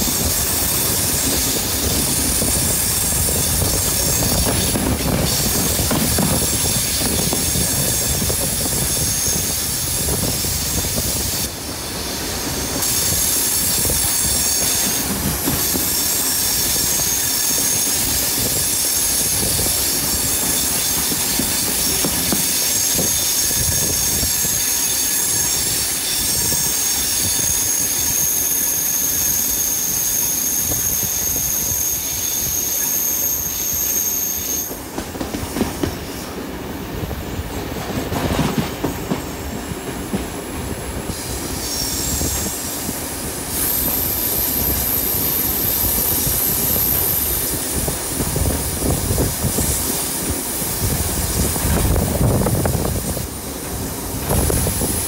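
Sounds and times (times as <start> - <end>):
train wheels rumbling: 0.0 - 55.0
train wheels squealing on rail: 0.0 - 55.0.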